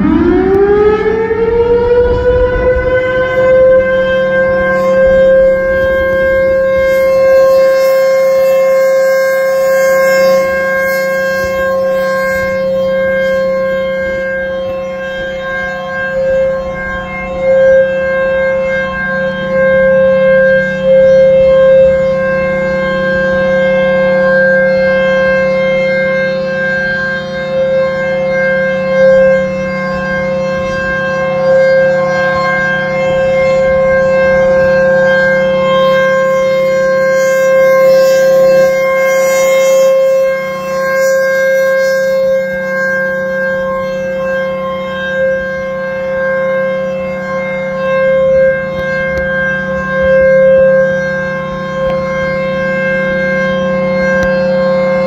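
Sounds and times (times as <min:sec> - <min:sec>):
steady-pitched siren tone: 0:00.0 - 0:55.0.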